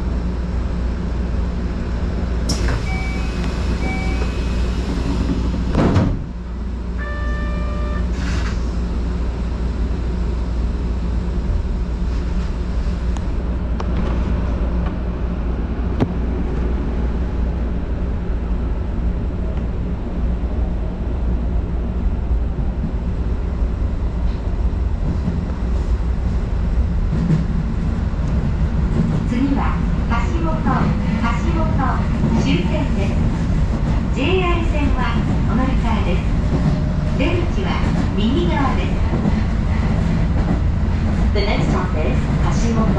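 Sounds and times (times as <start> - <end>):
train rumble and hum: 0.0 - 42.9.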